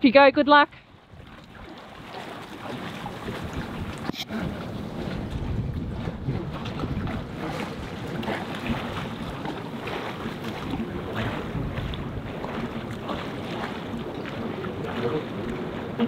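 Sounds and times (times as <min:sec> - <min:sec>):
wind buffeting microphone: 0:00.3 - 0:16.0
water slapping and splashing: 0:00.5 - 0:16.0.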